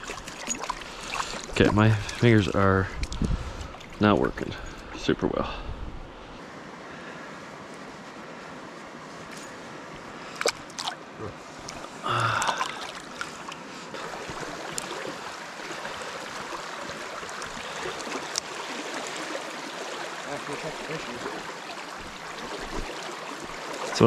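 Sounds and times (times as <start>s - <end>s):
creek water running over rocks: 0.0s - 5.4s, 9.2s - 24.0s.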